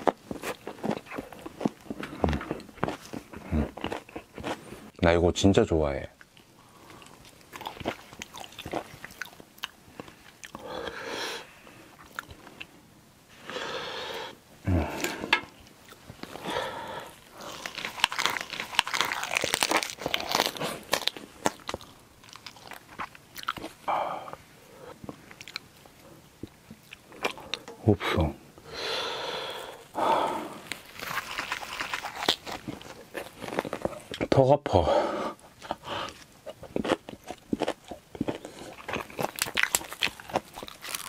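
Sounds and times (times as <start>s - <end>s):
close chewing and crunching: 0.0s - 5.0s, 6.2s - 10.8s, 11.9s - 12.8s, 14.7s - 27.8s, 29.5s - 34.4s, 35.3s - 41.0s.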